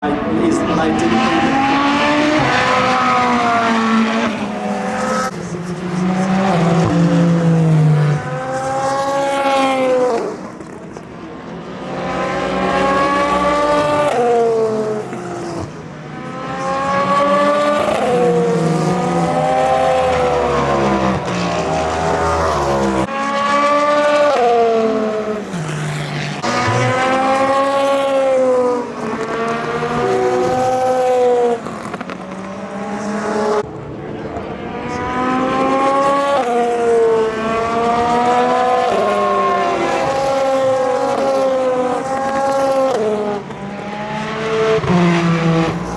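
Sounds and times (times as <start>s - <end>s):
race cars passing at speed: 0.0s - 45.9s.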